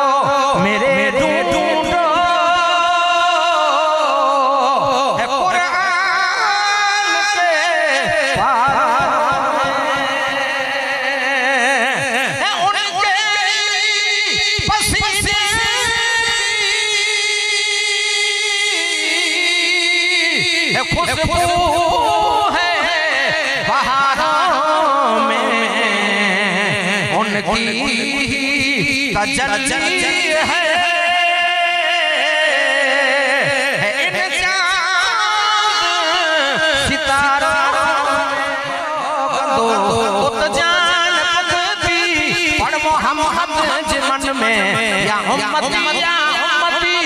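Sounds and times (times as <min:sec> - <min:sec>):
man singing into microphone: 0:00.0 - 0:47.0.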